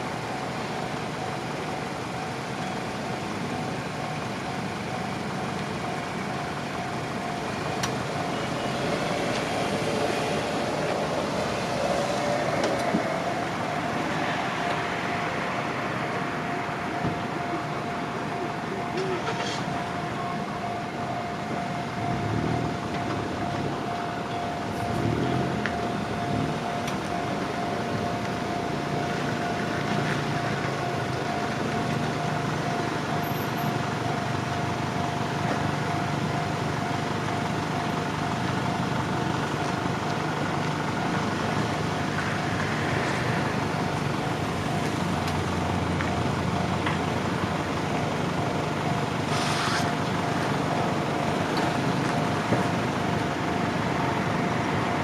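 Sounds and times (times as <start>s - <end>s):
level crossing alarm ringing: 0.0s - 49.3s.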